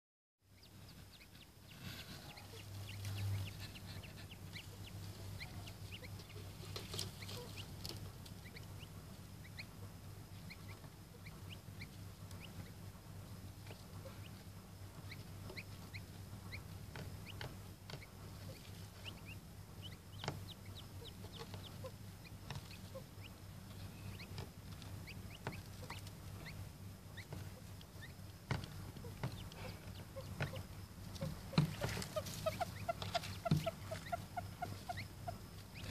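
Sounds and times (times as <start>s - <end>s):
chicks peeping: 0.5s - 35.9s
low hum: 0.5s - 35.9s.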